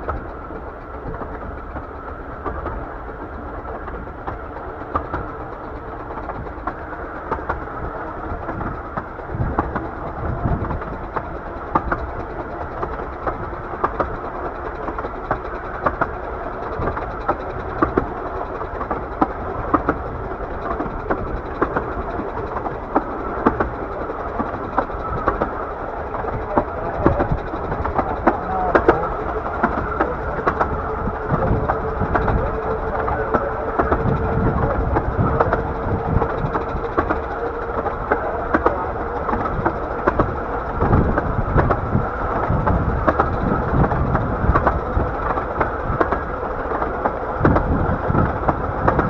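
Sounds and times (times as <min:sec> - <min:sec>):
train wheels rumbling on track: 0:00.0 - 0:49.0
wheels clicking over rail joints: 0:00.0 - 0:49.0.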